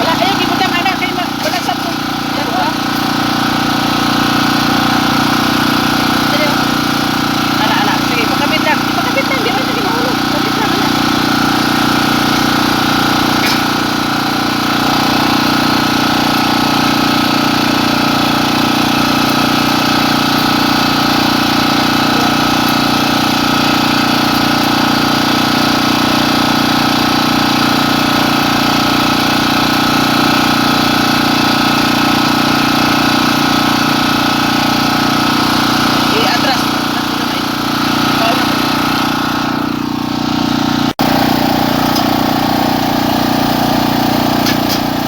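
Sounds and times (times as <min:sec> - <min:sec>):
engine idling: 0:00.0 - 0:45.0.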